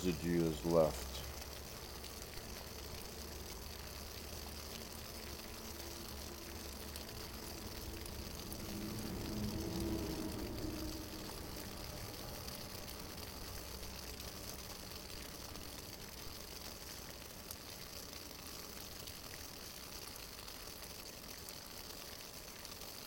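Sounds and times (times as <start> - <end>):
alcohol stove hissing: 0.0 - 23.0.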